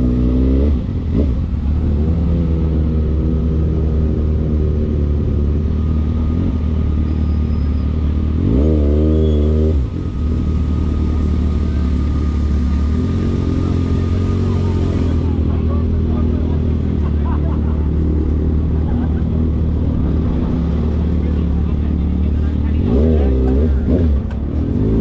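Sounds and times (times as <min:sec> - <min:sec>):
engine revving: 0:00.0 - 0:25.0
vehicle engines rumbling: 0:00.0 - 0:25.0.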